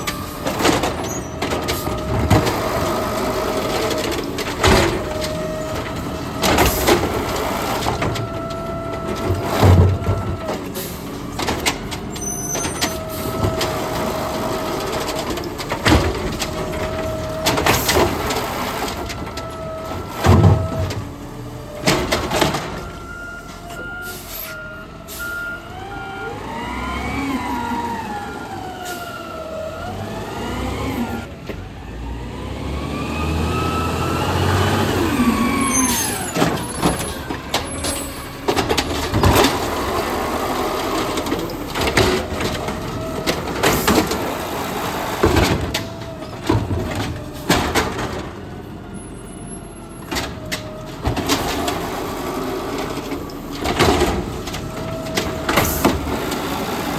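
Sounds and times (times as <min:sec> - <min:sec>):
garbage truck engine revving: 0:00.0 - 0:56.9
hydraulics running: 0:00.0 - 0:56.9.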